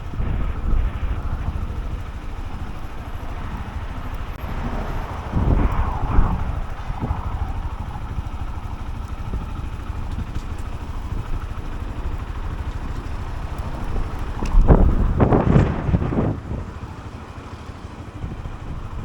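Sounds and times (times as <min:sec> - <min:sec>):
motorcycle engine running: 0:00.0 - 0:19.0
wind rumbling on microphone: 0:00.0 - 0:19.0.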